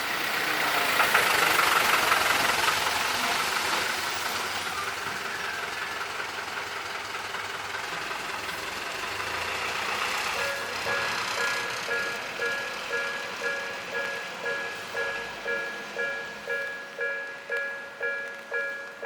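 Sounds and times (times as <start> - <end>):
vehicle noise hum: 0.0 - 19.0.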